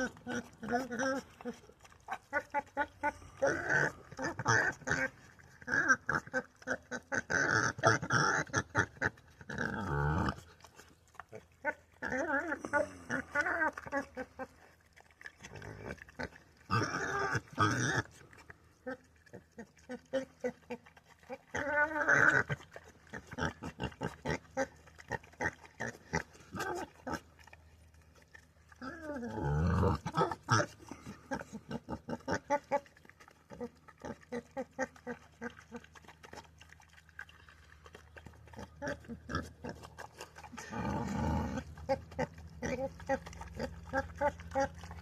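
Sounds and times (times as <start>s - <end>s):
pig chewing and smacking: 0.0s - 45.0s
pig grunting: 0.0s - 45.0s.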